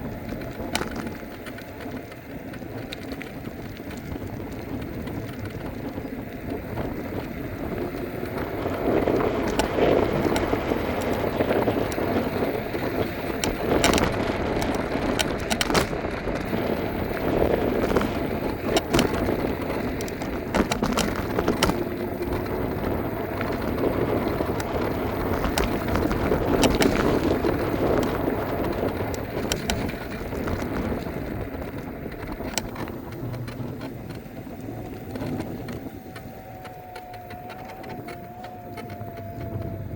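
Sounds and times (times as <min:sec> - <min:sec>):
clicks and rattles from bumps: 0:00.0 - 0:39.9
scooter wheels rumbling: 0:00.0 - 0:39.9.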